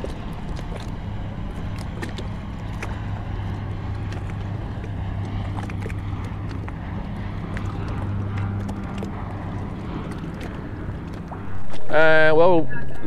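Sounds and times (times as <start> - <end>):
water lapping: 0.0 - 12.8
low propeller drone: 0.0 - 13.0.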